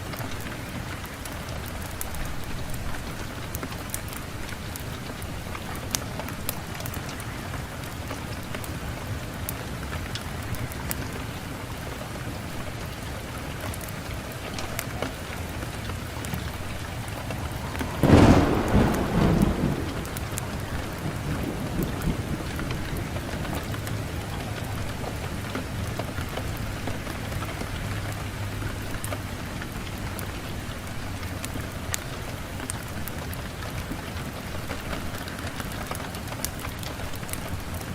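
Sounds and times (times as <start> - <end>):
fire crackles and pops: 0.0 - 37.9
wood fire burning: 0.0 - 37.9.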